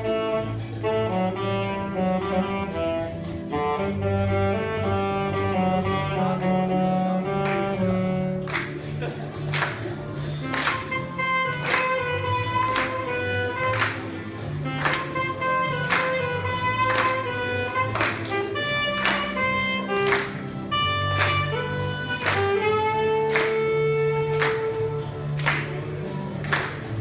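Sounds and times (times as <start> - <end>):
instrumental music with beat: 0.0 - 27.0.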